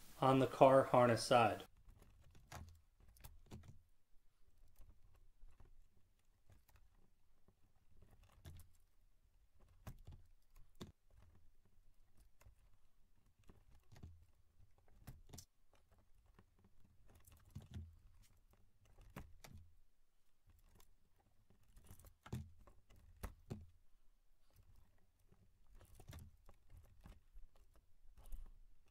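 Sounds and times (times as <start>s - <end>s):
clicks and rustles of wires: 1.6s - 28.9s.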